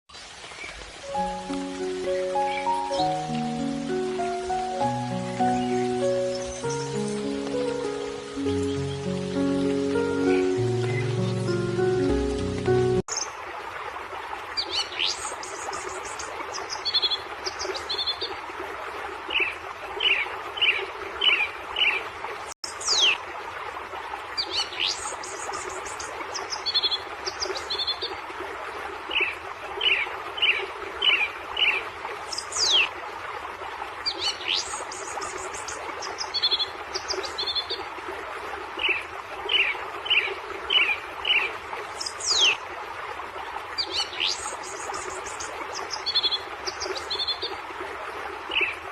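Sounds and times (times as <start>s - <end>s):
songbirds calling and singing: 0.4s - 13.4s, 14.6s - 18.4s, 19.3s - 23.2s, 24.3s - 28.2s, 29.1s - 32.9s, 34.0s - 38.0s, 38.8s - 42.6s, 43.6s - 47.7s, 48.5s - 48.9s.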